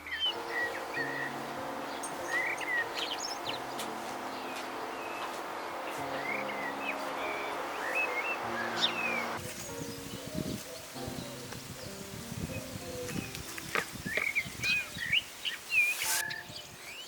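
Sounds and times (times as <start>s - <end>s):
small birds chirping: 0.0s - 17.0s
soft music of held notes: 0.0s - 17.0s
steady hiss: 0.3s - 17.0s.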